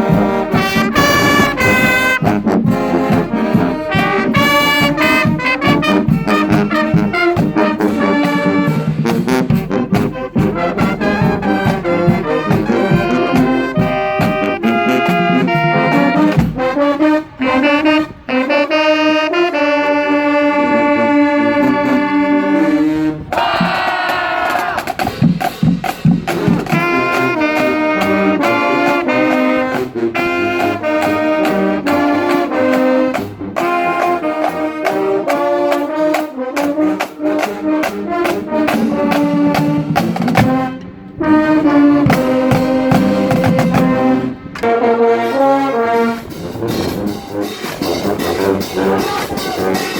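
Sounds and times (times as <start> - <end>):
marching band playing: 0.0 - 49.9.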